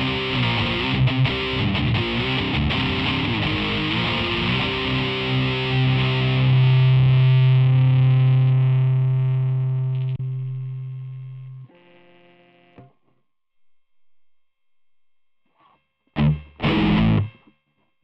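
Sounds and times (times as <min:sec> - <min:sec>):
distorted electric guitar: 0:00.0 - 0:12.3, 0:15.5 - 0:17.6.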